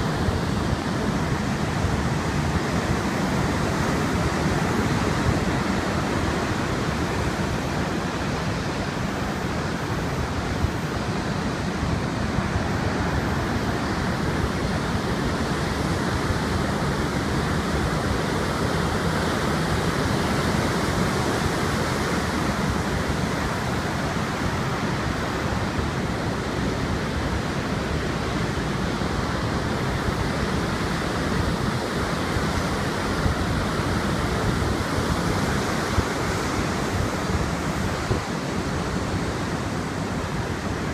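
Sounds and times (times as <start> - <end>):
heavy surf: 0.0 - 40.9
strong wind: 0.0 - 40.9.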